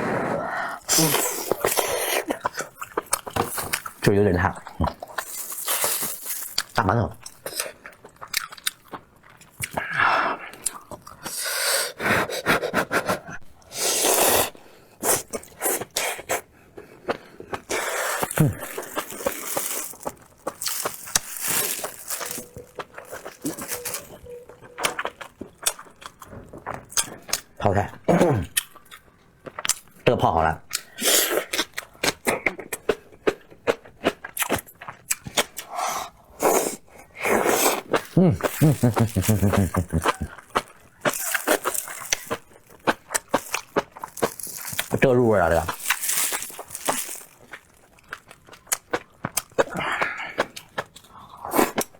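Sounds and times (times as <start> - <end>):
wet chewing: 0.7 - 11.4, 13.0 - 27.6, 30.7 - 51.9.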